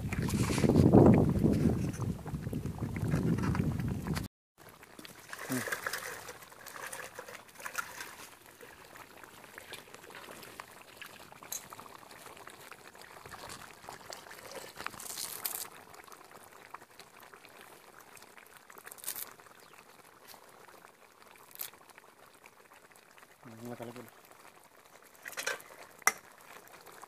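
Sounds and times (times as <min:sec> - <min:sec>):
gravy bubbling in a pan: 0:00.0 - 0:27.0.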